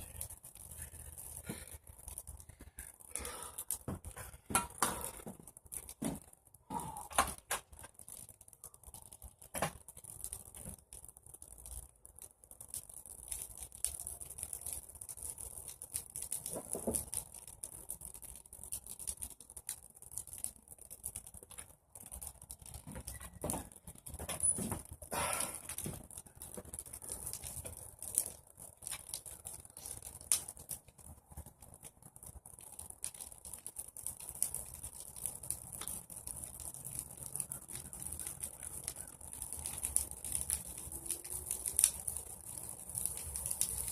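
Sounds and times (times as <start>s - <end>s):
bonfire crackling and popping: 0.0s - 43.9s.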